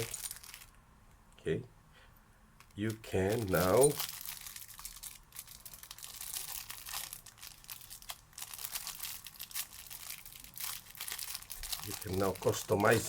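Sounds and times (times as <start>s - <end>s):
crinkling wrapping and clicking parts: 0.0s - 0.8s, 2.6s - 13.0s.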